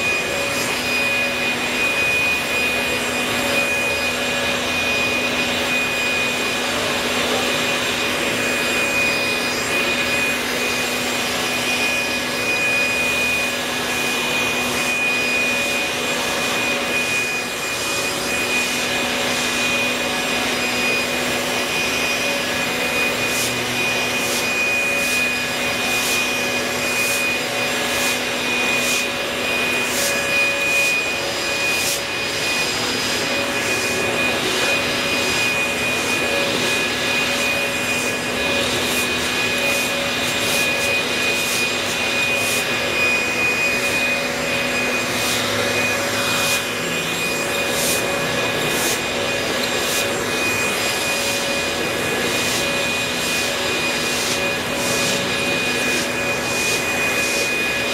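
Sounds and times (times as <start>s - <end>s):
leaf blower whine: 0.0s - 57.9s.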